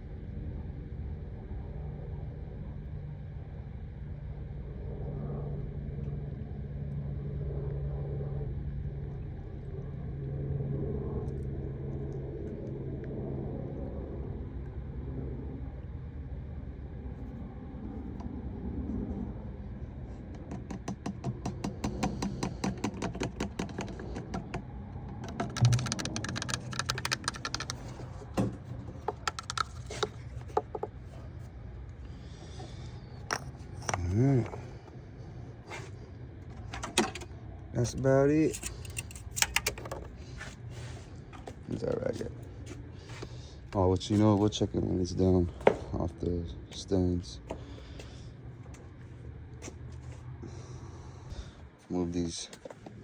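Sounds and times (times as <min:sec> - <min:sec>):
low engine rumble: 0:00.0 - 0:53.0.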